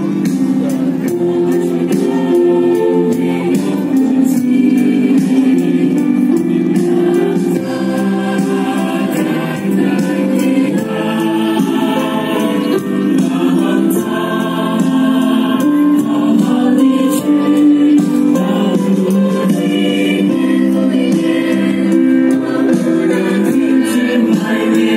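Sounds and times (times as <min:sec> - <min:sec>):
choir singing: 0:00.0 - 0:24.9.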